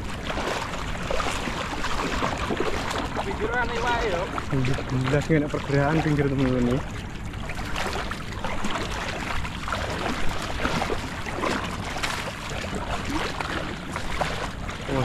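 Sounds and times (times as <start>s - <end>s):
fish thrashing in water: 0.0s - 15.0s
water running off net: 0.0s - 15.0s
water splashing and trickling: 0.0s - 15.0s.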